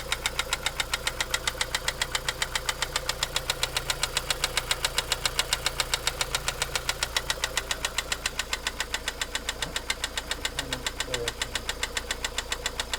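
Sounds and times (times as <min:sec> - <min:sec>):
car engine idling: 0:00.0 - 0:12.9
regular engine knock: 0:00.0 - 0:12.9.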